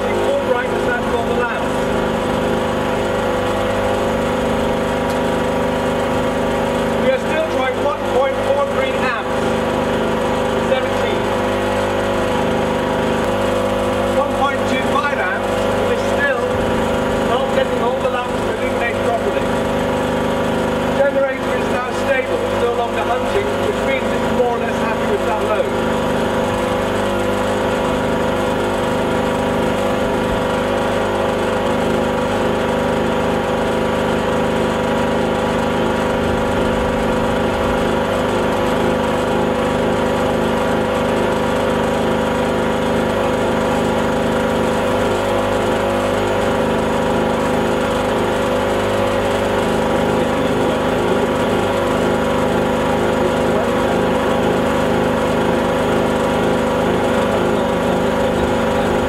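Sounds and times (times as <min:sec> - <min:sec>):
portable generator running: 0:00.0 - 0:59.0.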